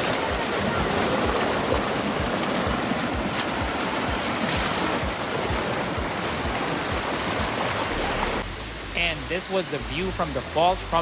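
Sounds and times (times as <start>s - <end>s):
stream and waterfall rushing: 0.0s - 11.0s.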